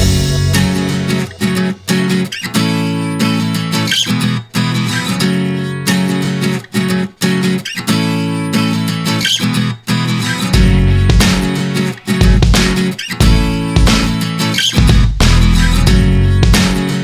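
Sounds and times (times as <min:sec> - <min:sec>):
guitar tune with sustained chords: 0:00.0 - 0:14.8, 0:15.5 - 0:17.0.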